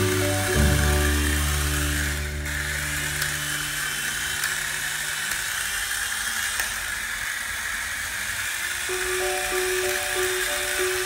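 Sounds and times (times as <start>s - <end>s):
rotor blades whirring: 0.0s - 11.0s
small electric motor whining: 0.0s - 11.0s.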